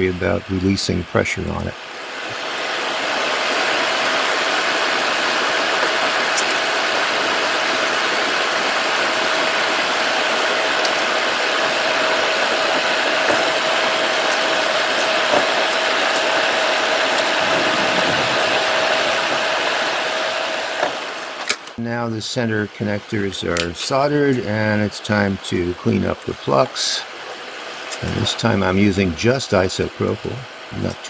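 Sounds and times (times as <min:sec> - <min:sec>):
constant hum: 0:00.0 - 0:31.0
whooshing machine noise: 0:00.0 - 0:31.0.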